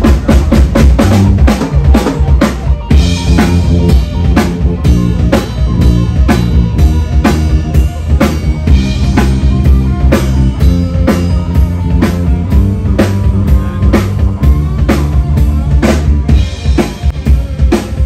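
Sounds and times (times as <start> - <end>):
drum kit beat: 0.0 - 18.0
electric guitar: 0.0 - 18.0
keyboard: 0.0 - 18.0
sustained bass line: 0.0 - 18.0.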